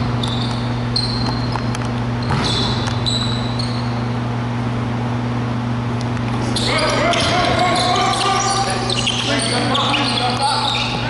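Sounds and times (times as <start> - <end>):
sneakers squeaking on hardwood floor: 0.0 - 4.2, 6.3 - 11.0
steady low hum: 0.0 - 11.0.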